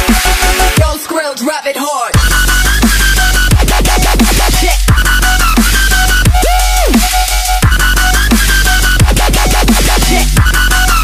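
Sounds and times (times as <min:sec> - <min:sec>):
dubstep music with sub-bass: 0:00.0 - 0:11.0
stuttering pitched sounds: 0:02.2 - 0:11.0.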